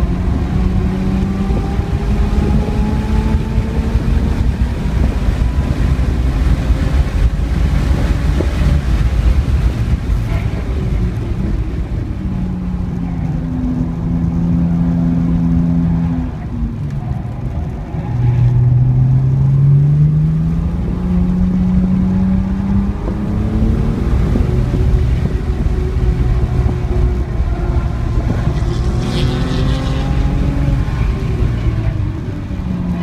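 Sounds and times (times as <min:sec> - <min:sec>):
car engine accelerating: 0:00.0 - 0:33.0
road rumble: 0:00.0 - 0:33.0
wind noise: 0:00.0 - 0:33.0.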